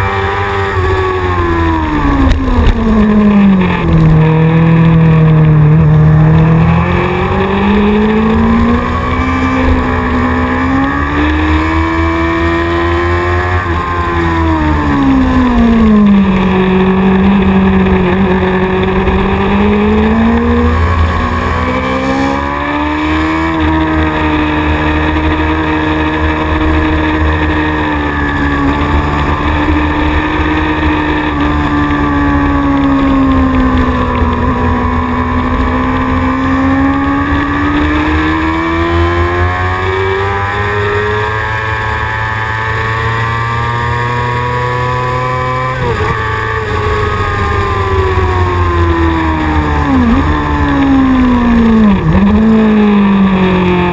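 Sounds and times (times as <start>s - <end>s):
motorcycle engine at high revs: 0.0s - 53.9s.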